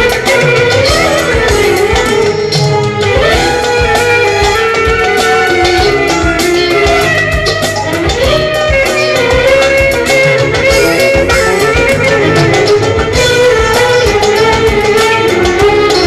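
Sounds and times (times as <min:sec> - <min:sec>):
clarinet melody: 0:00.0 - 0:16.0
live band playing: 0:00.0 - 0:16.0.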